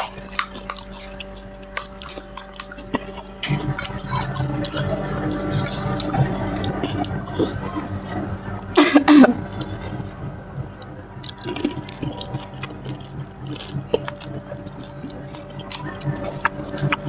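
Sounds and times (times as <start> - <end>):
wet squishing and slurping: 0.0 - 7.6, 10.8 - 17.0.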